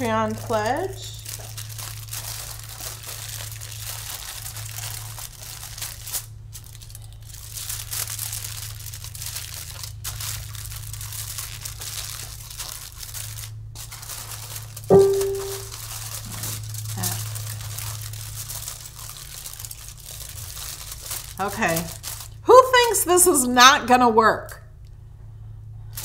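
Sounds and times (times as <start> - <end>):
aluminium foil crinkling: 0.0 - 23.5.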